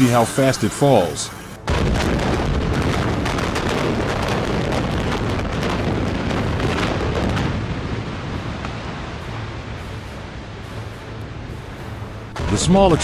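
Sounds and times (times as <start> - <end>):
building collapsing rumble: 1.6 - 13.0.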